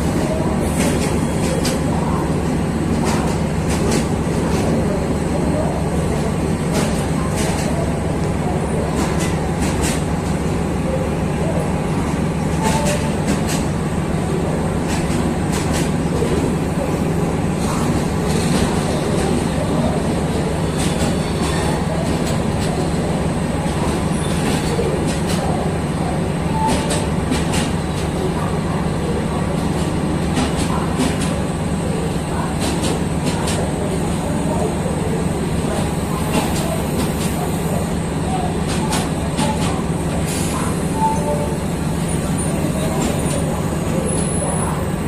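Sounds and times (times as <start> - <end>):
train mechanical hum: 0.0 - 45.0.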